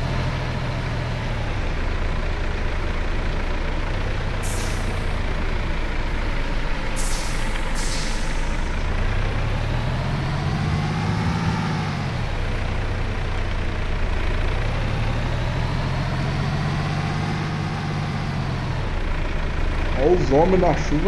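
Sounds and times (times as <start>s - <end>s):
truck diesel engine revving: 0.0s - 21.0s.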